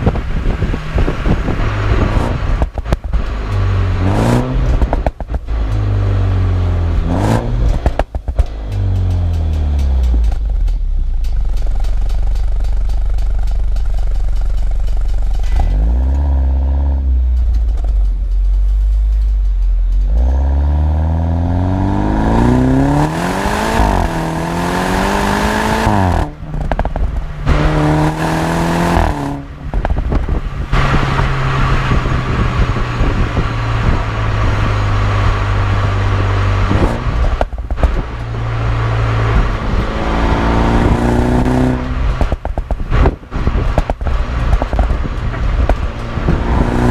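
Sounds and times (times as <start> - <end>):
car engine revving: 0.0 - 46.9
exhaust crackles and pops: 0.0 - 46.9.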